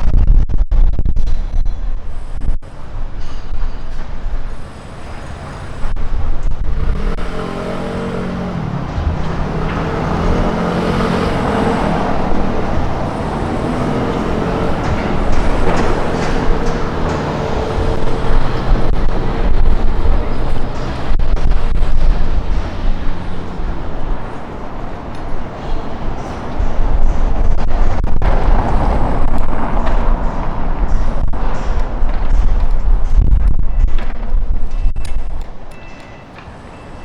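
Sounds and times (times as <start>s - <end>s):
wind rumble on microphone: 0.0s - 35.8s
vehicle engine running: 3.8s - 35.5s.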